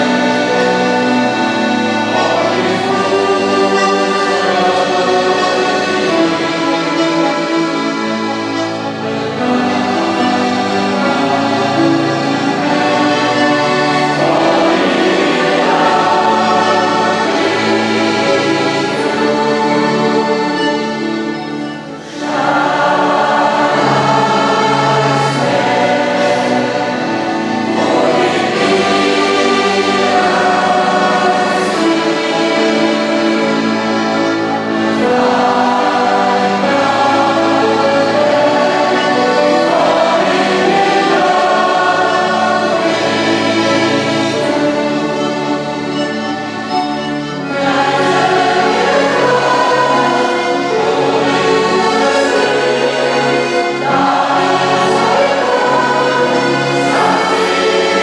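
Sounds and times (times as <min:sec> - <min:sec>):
accordions playing: 0:00.0 - 0:58.0
grand piano: 0:00.0 - 0:58.0
mixed choir singing: 0:00.0 - 0:58.0.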